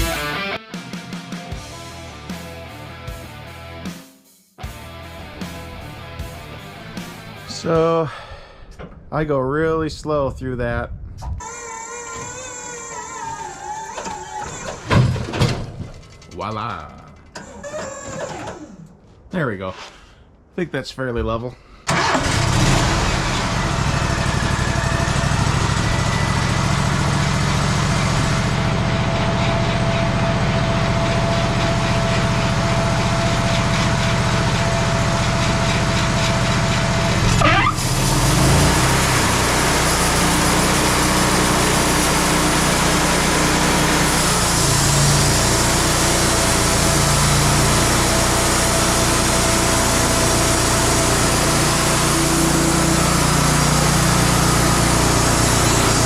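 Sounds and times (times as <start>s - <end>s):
sawmill engine running: 1.6s - 3.7s, 4.7s - 8.4s, 11.4s - 18.8s, 21.9s - 56.0s.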